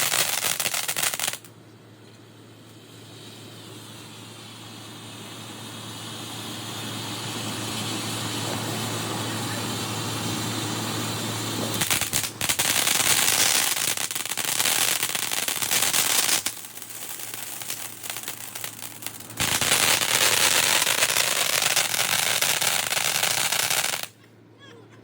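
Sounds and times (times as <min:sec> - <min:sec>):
fountain fireworks crackling: 0:00.0 - 0:01.6, 0:02.3 - 0:24.2.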